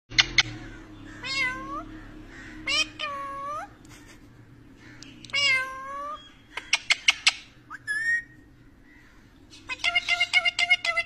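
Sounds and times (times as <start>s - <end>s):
parakeet chattering: 0.1s - 3.8s, 4.8s - 8.9s, 9.5s - 11.0s
parakeet calling and chirping: 0.1s - 11.0s.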